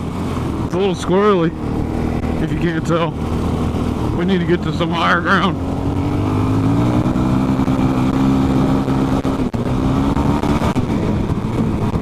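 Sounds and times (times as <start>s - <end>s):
dirt bike engine under throttle: 0.0s - 12.0s.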